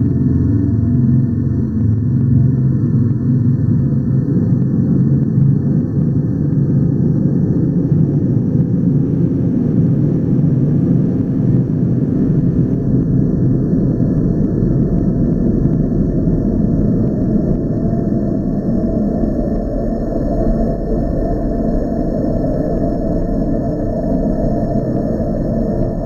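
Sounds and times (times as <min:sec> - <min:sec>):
deep rumbling drone: 0:00.0 - 0:26.0.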